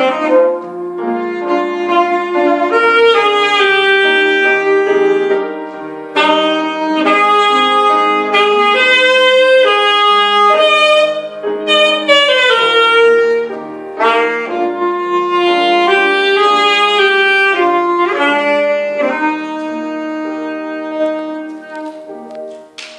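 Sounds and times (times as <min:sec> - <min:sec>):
saxophone slow melody: 0:00.0 - 0:22.6.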